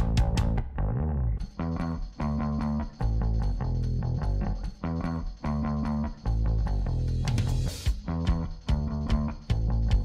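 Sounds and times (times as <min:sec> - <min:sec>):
steady drum beat: 0:00.0 - 0:00.6, 0:01.6 - 0:10.0
bass and guitar music: 0:00.0 - 0:10.0.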